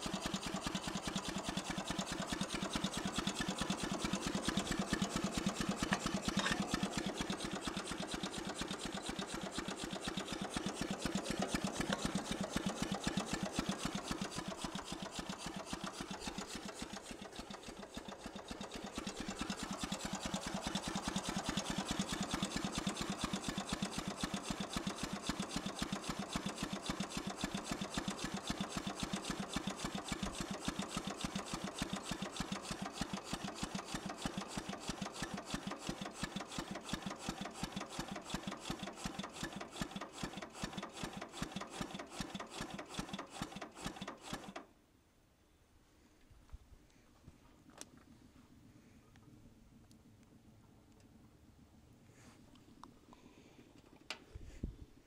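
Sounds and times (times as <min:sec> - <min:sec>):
steam engine exhaust chuffs: 0:00.0 - 0:44.6.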